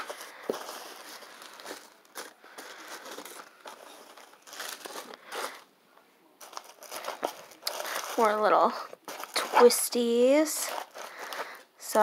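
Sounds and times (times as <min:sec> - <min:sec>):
handling noises: 0:00.0 - 0:05.7, 0:06.4 - 0:12.0
tissue paper rustling: 0:00.0 - 0:05.7, 0:06.4 - 0:12.0.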